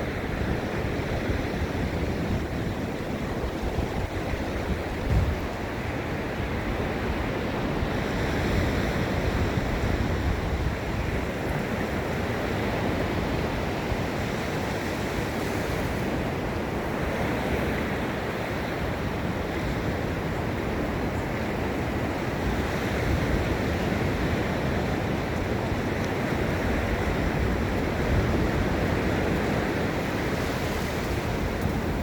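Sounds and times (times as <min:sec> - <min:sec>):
surf washing onto beach: 0:00.0 - 0:32.0
wind buffeting microphone: 0:00.0 - 0:32.0.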